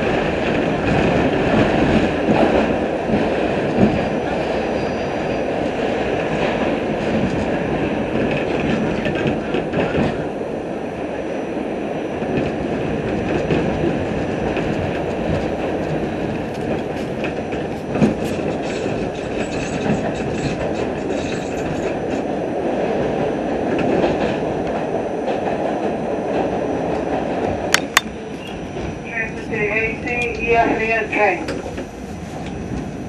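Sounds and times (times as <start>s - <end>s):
subway train wheels rumbling: 0.0s - 33.0s.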